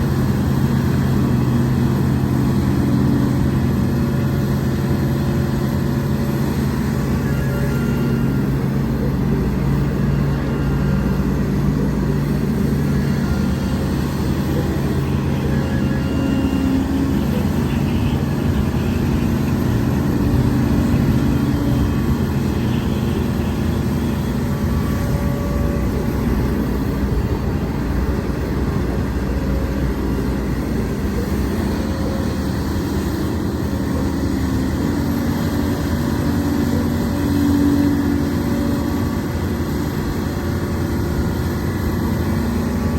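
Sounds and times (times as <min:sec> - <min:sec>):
dump truck diesel engine: 0:00.0 - 0:42.9
excavator diesel engine: 0:00.0 - 0:42.9.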